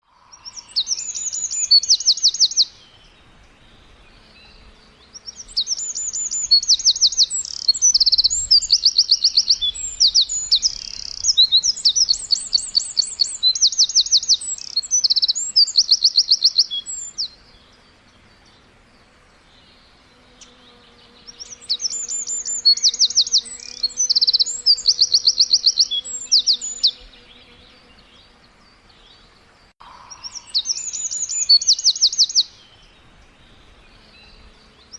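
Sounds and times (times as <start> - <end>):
songbird trilling and chirping: 0.0 - 18.6, 19.5 - 34.9.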